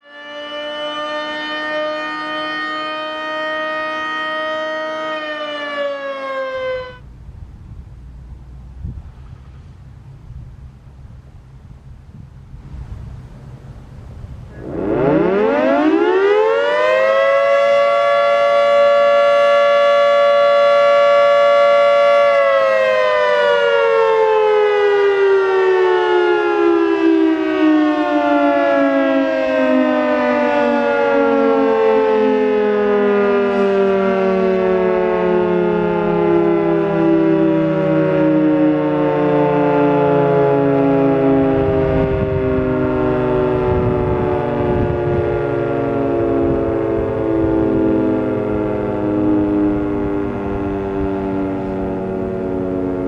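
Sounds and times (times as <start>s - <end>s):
three-tone siren wailing: 0.0s - 7.2s, 14.5s - 53.0s.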